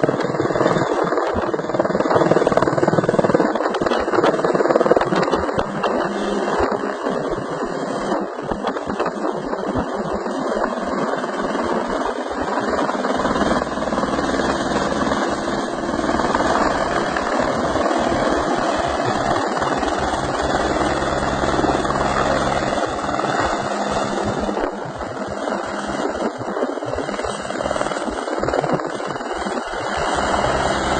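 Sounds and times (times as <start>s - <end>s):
helicopter rotor and engine: 0.0s - 30.9s.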